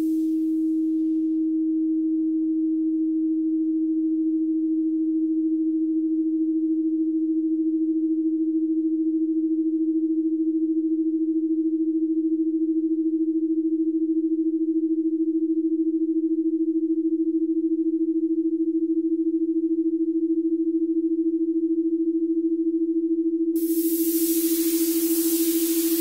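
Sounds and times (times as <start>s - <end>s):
low electronic sine tone: 0.0s - 26.0s.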